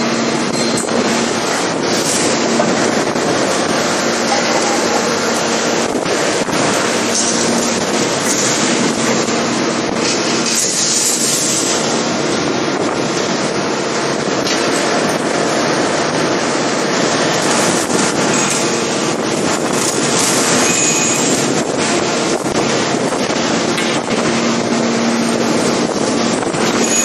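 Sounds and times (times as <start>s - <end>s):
forging machinery rushing din: 0.0s - 27.0s.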